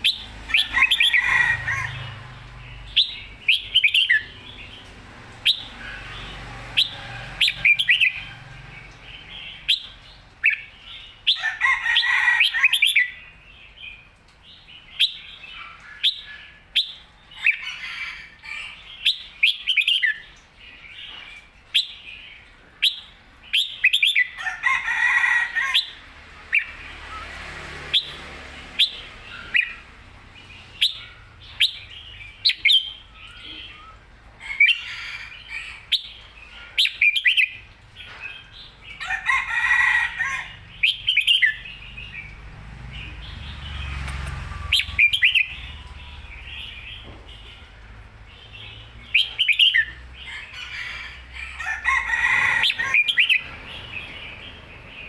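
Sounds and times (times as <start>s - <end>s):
dense burst of bird sound: 0.0s - 55.0s.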